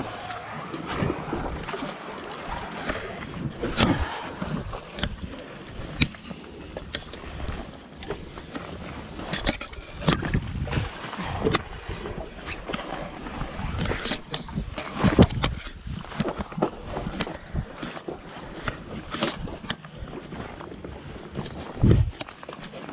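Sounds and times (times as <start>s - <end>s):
wind on microphone: 0.0s - 6.1s, 9.2s - 22.2s.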